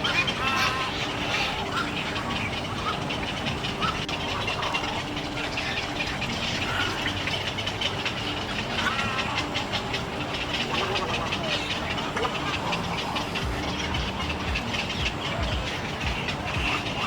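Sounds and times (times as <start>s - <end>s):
egrets clicking chatter: 0.0s - 17.0s
egrets gliding calls: 0.0s - 17.0s.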